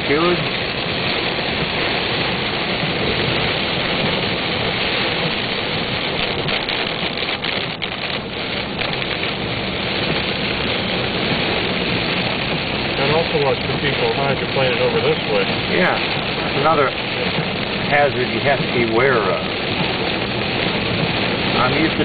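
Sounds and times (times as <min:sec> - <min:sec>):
heavy rain on car: 0:00.0 - 0:22.0
tyres on wet road: 0:00.0 - 0:22.0.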